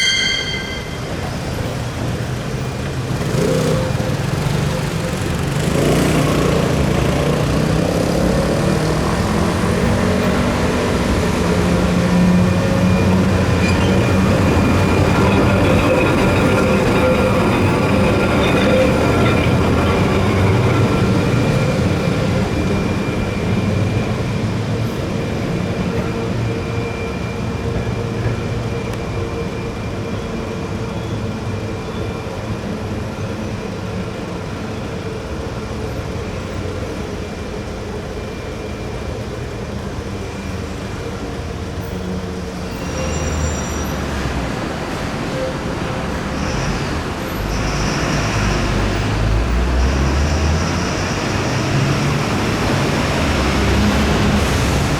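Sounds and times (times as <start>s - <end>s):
tram rolling on rails: 0.0s - 54.9s.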